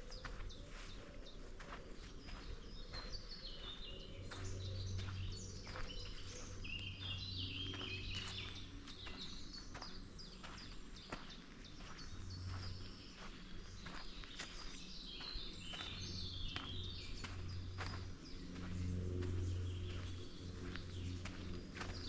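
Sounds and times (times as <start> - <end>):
birds chirping: 0.0 - 22.0
footsteps on forest path: 0.0 - 22.0.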